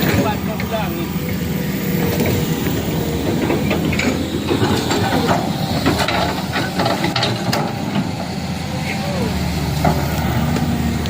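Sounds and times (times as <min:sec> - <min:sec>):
engine hiss: 0:00.0 - 0:11.0
heavy vehicle engine rumble: 0:00.0 - 0:11.0.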